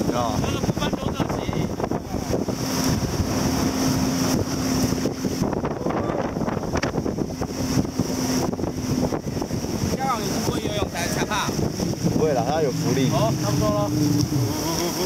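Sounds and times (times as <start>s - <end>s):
motorboat engine drone: 0.0s - 15.0s
wind buffeting microphone: 0.0s - 15.0s.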